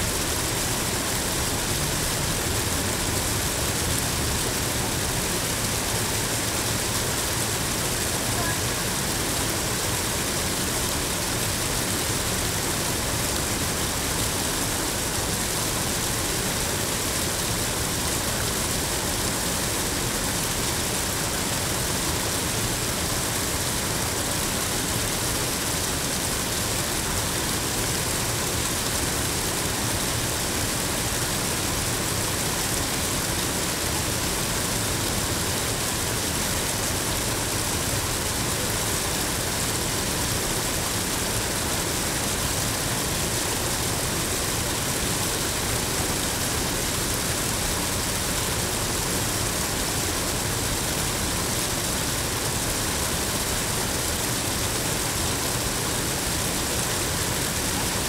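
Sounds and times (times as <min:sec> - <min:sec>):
falling water rushing: 0:00.0 - 0:58.0.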